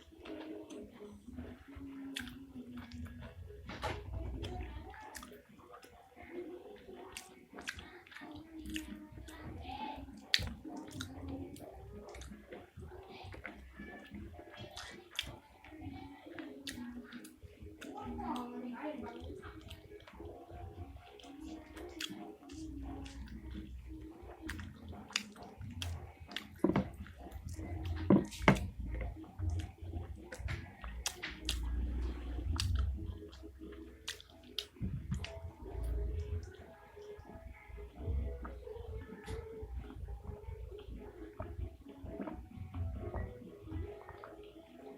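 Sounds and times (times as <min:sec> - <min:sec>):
wet chewing and smacking: 0:00.0 - 0:44.9.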